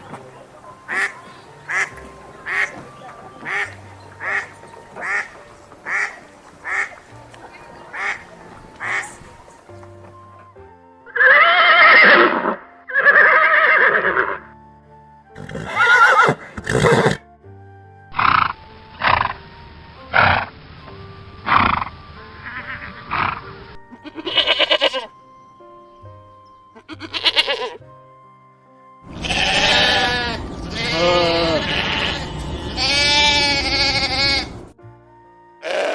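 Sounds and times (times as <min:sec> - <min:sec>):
background music: 0:00.0 - 0:35.9.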